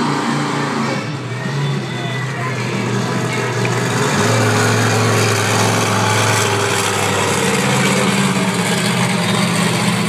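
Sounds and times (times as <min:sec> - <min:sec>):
monster truck engine running: 0:00.0 - 0:10.0.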